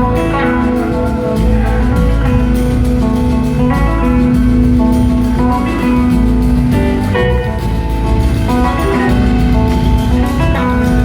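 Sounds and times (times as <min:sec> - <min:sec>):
bass guitar: 0:00.0 - 0:11.0
drums: 0:00.0 - 0:11.0
electric guitars: 0:00.0 - 0:11.0
live blues-rock band: 0:00.0 - 0:11.0.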